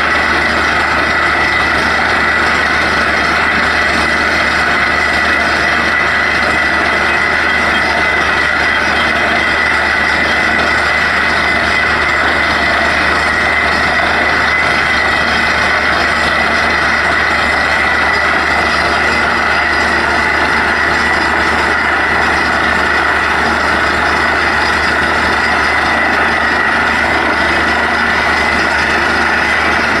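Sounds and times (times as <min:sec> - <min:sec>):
farm machine engine drone: 0:00.0 - 0:30.0.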